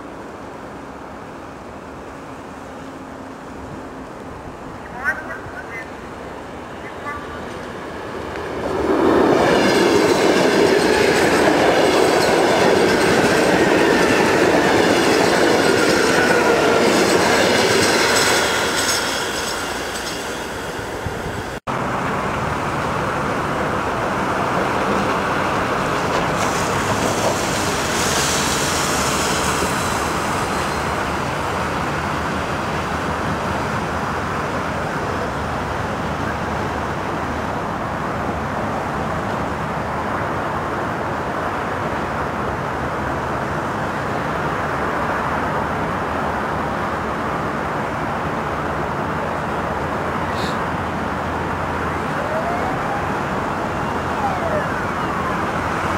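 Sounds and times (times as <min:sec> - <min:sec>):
electric train passing close: 0:00.0 - 0:55.9
train running noise on board: 0:00.0 - 0:55.9.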